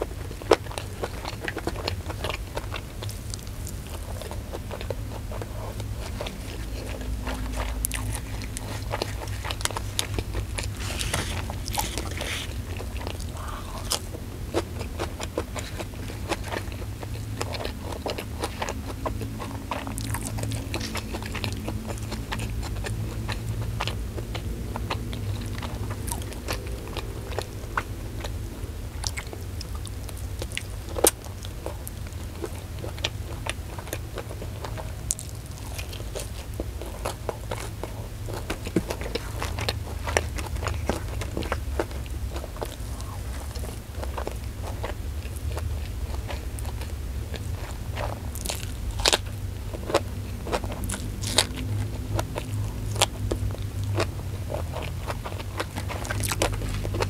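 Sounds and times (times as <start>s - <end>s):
person chewing and crunching food: 0.0s - 57.0s
steady low hum: 0.0s - 57.0s.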